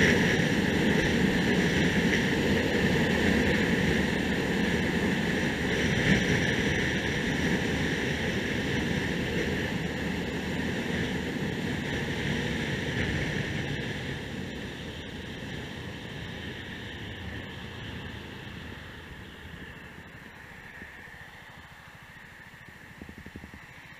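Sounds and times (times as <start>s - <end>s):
motorcycle road noise: 0.0s - 23.9s
wind rush: 0.0s - 23.9s.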